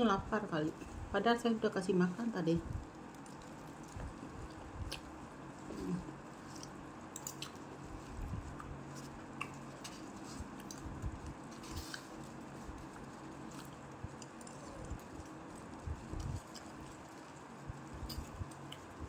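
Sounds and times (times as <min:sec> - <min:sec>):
faint steady hum: 0:00.0 - 0:19.0
chewing: 0:02.8 - 0:19.0.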